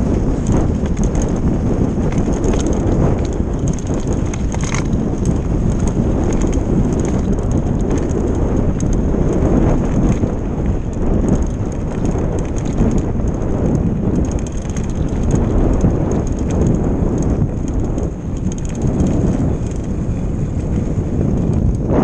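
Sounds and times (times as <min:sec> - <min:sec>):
bike frame rattling clicks: 0:00.0 - 0:21.9
tyres rumbling on snow: 0:00.0 - 0:22.0
wind on microphone: 0:00.0 - 0:22.0.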